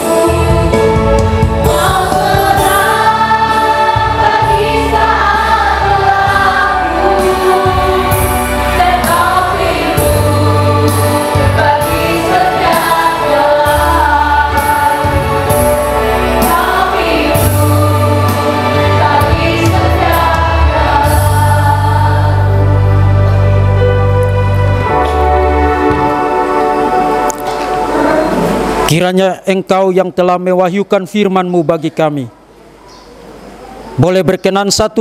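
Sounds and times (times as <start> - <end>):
choir singing: 0.0 - 28.9.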